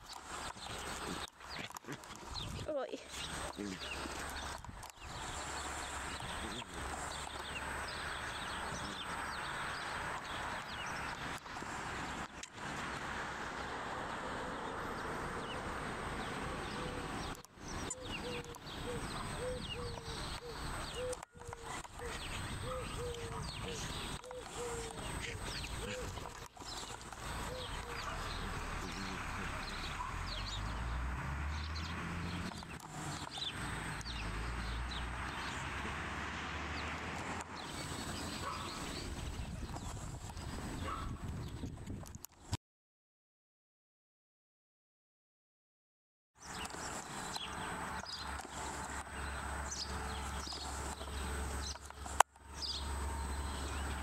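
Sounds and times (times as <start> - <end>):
small birds chirping: 0.0 - 13.0, 14.6 - 36.0, 36.8 - 41.8, 46.4 - 54.0.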